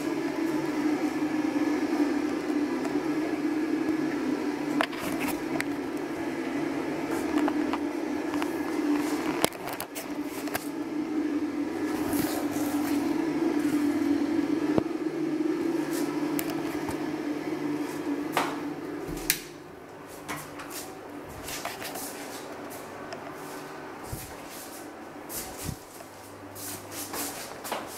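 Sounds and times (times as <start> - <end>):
bathroom fan humming: 0.0 - 27.9.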